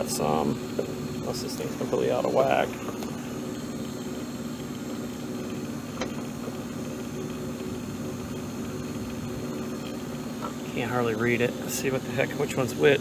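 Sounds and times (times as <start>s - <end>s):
refrigeration unit humming: 0.0s - 13.0s.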